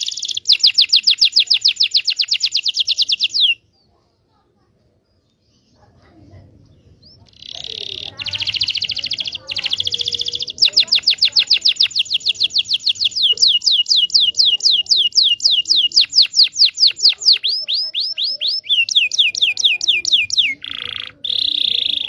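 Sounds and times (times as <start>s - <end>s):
canary singing: 0.0s - 3.8s, 5.2s - 22.0s.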